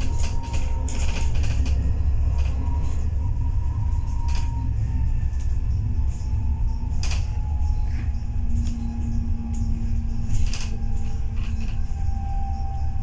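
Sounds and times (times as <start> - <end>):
bus engine and road rumble: 0.0 - 13.0
drivetrain whine: 0.0 - 13.0.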